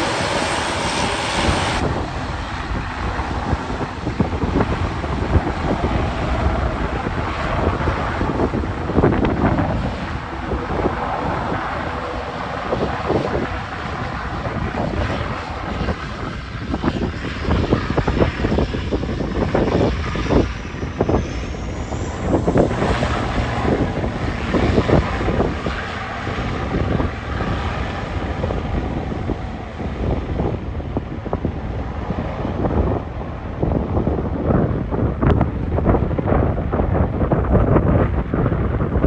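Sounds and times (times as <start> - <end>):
airliner engines whining: 0.0 - 39.0
wind buffeting microphone: 0.0 - 39.0.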